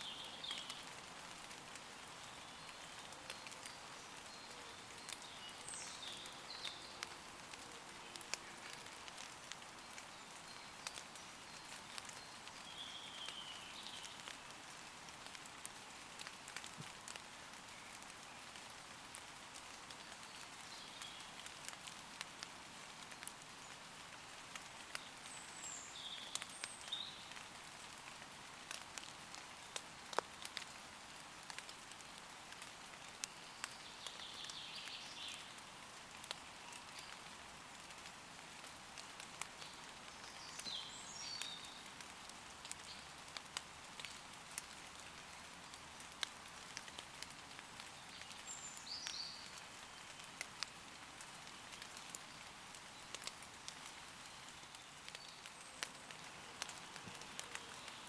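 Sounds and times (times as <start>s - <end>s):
light rain on leaves: 0.0s - 58.0s
raindrops ticking close by: 0.0s - 58.0s.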